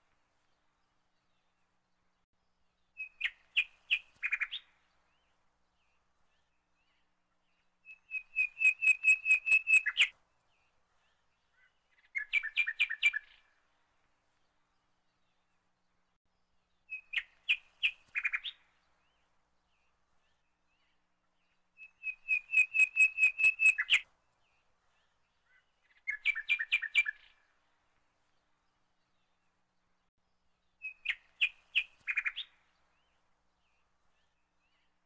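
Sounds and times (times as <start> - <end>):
small songbird chirping: 0.3 - 35.0.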